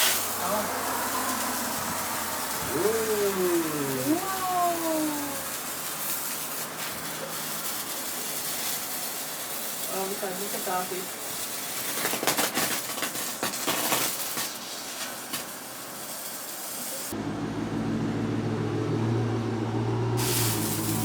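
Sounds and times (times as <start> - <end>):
firework hissing and crackling: 0.0 - 17.2, 20.2 - 21.0.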